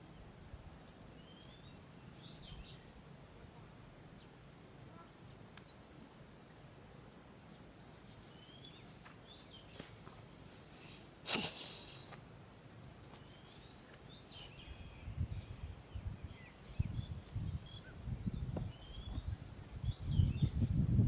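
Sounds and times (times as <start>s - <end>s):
small birds chirping: 0.0s - 3.0s, 4.1s - 6.0s, 7.4s - 12.2s, 12.8s - 20.8s
faint background hiss: 0.0s - 21.0s.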